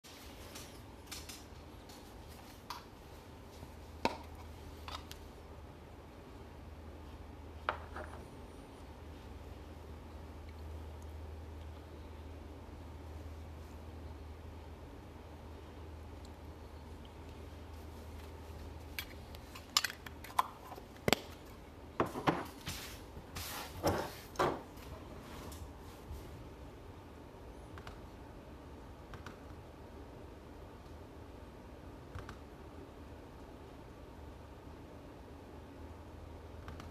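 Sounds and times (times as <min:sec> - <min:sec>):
low steady hum: 0:00.1 - 0:36.9.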